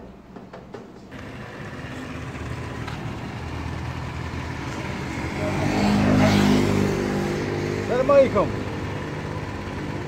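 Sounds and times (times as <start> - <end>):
vehicle engine running: 1.1 - 10.0.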